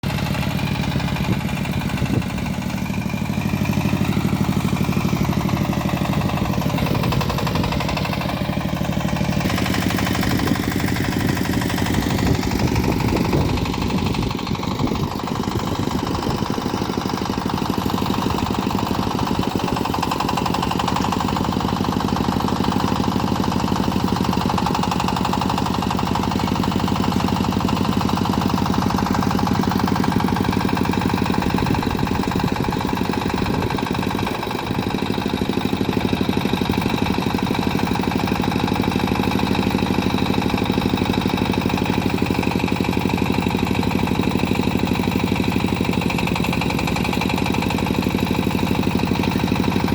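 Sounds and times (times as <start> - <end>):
backhoe engine running: 0.0 - 49.9.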